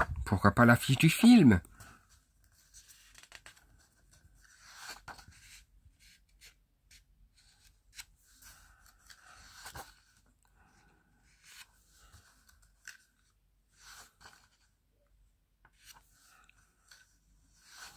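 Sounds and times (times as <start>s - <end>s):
book pages turning: 0.9s - 10.3s, 11.4s - 14.7s, 15.6s - 17.9s.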